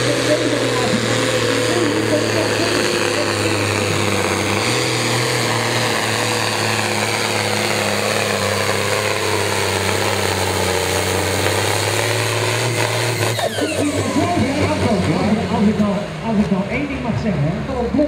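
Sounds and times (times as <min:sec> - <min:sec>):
diesel engine under full load: 0:00.0 - 0:18.0.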